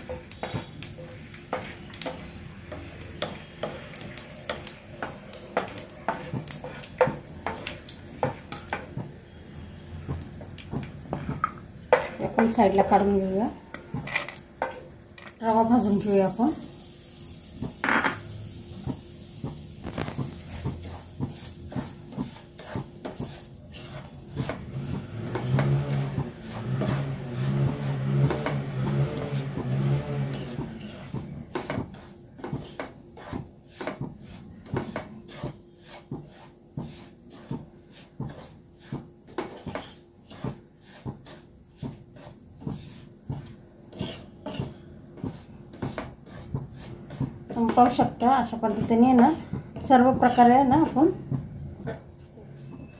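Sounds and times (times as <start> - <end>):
spatula scraping a pan: 0.0 - 9.8, 10.9 - 16.1, 19.8 - 52.9.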